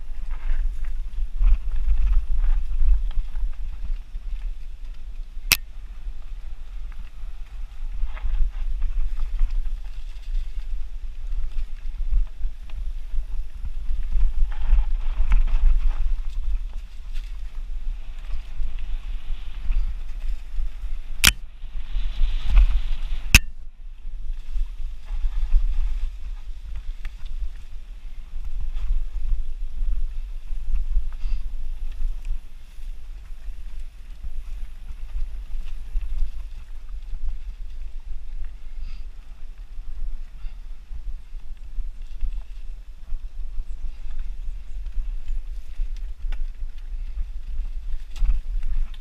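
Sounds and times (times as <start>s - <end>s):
bike tyres on dirt: 0.0s - 49.0s
wind rumble on microphone: 0.0s - 49.0s.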